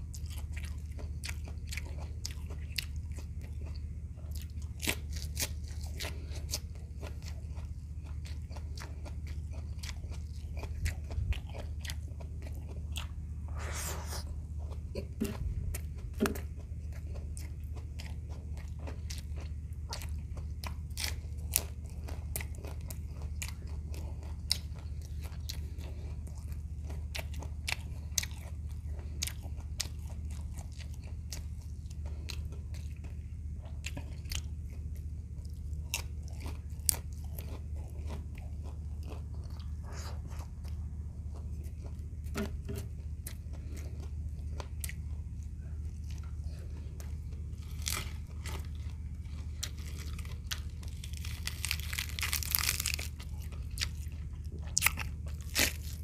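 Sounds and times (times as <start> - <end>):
chewing crispy food: 0.0 - 56.0
low hum: 0.1 - 56.0.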